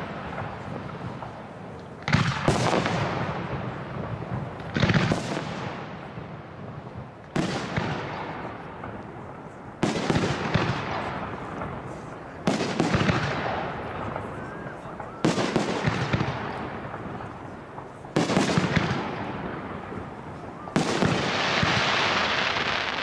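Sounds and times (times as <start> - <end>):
fireworks bursting with echoing rumble: 0.0 - 23.0.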